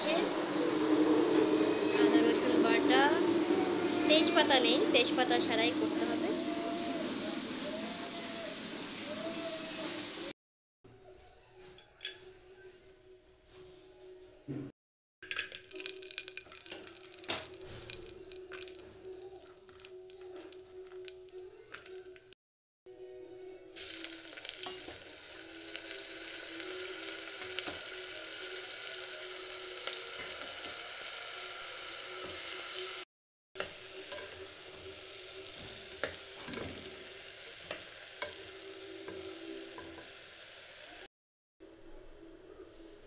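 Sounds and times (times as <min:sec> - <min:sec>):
spices sizzling in hot oil: 0:00.0 - 0:10.3, 0:15.3 - 0:22.3, 0:23.8 - 0:41.1.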